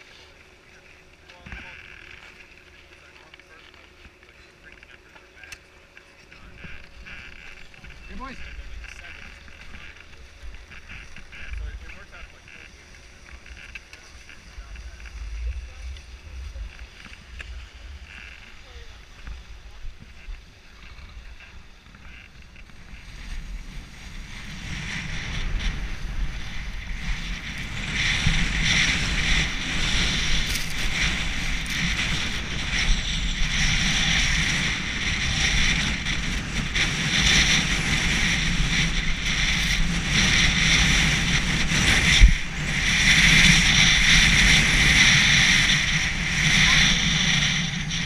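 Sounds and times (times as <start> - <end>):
skis scraping over snow: 0.0 - 48.0
wind rushing across microphone: 6.3 - 48.0.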